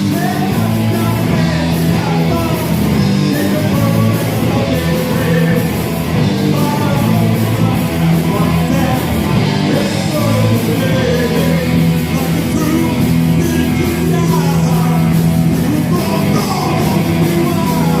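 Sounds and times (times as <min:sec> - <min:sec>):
live rock band playing: 0:00.0 - 0:18.0
singing: 0:00.0 - 0:18.0.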